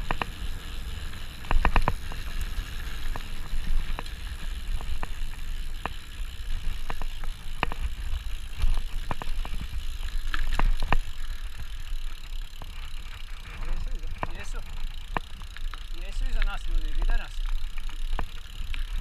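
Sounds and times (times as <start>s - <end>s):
bike clacking and rattling: 0.0s - 19.0s
tyres rolling on dirt: 0.0s - 19.0s.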